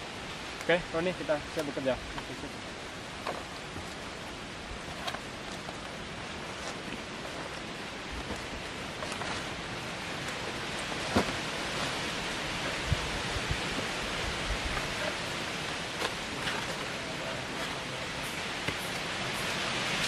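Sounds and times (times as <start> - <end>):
wind rushing through trees: 0.0 - 20.0.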